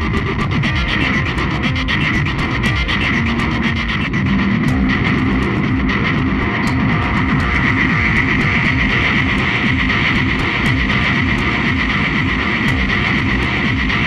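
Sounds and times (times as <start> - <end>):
guitar rock music: 0.0 - 14.0.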